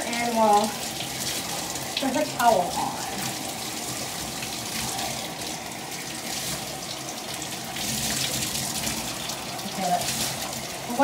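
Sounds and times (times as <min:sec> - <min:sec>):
water running from tap into tub: 0:00.0 - 0:11.0.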